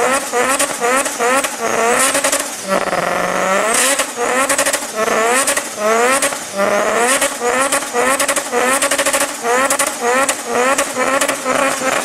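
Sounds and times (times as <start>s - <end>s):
engine crackles: 0.0s - 12.0s
rotary engine revving: 0.0s - 12.0s.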